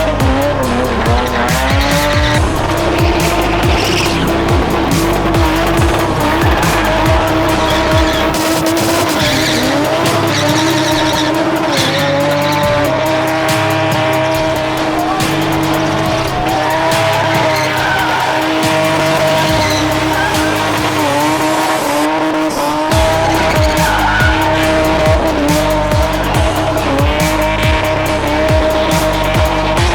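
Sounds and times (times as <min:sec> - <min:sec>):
car engine at high revs: 0:00.0 - 0:29.9
tyres squealing: 0:00.0 - 0:29.9.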